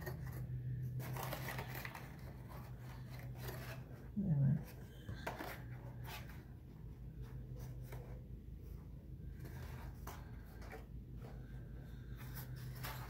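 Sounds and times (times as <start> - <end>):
cardstock rustling: 0.0 - 13.0
steady low hum: 0.0 - 13.0.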